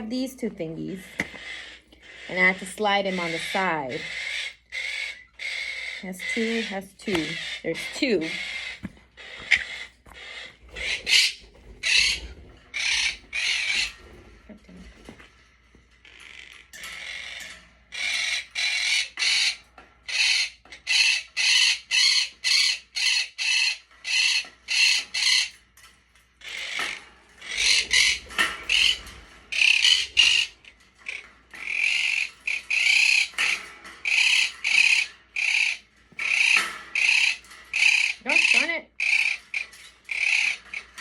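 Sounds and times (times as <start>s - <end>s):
parrot squawking: 0.8s - 14.2s, 16.0s - 25.6s, 26.4s - 41.0s.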